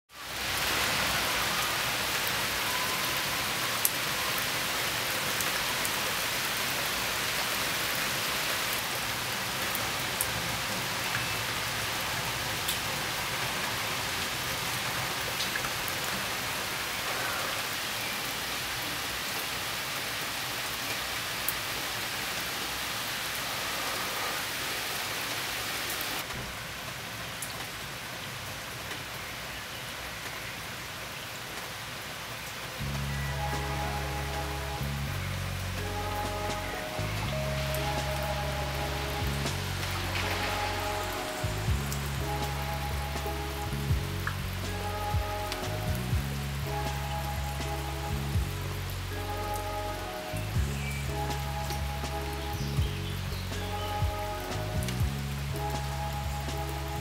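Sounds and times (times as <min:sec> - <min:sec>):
steady rain falling: 0:00.1 - 0:57.0.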